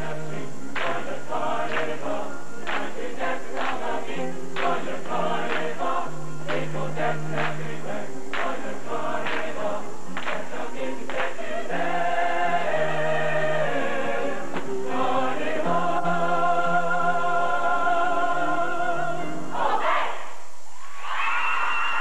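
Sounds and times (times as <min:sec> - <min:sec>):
choir singing: 0:00.0 - 0:20.3.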